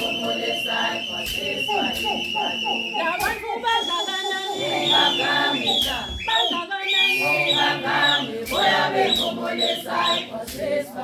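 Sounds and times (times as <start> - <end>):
group singing and chanting: 0.0 - 11.0.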